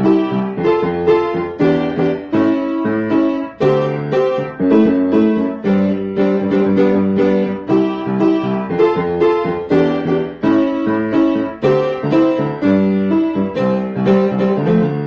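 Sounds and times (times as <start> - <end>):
piano playing funk chords: 0.0 - 15.0.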